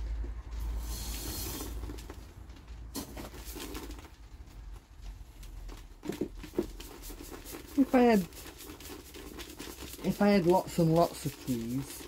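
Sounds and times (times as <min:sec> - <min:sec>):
clay granules rattling in mesh basket: 0:00.1 - 0:12.0.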